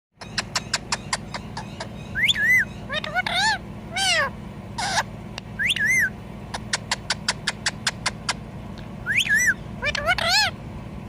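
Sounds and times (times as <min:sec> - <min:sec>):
parakeet screeching and chirping: 0:00.2 - 0:08.4, 0:09.0 - 0:10.6.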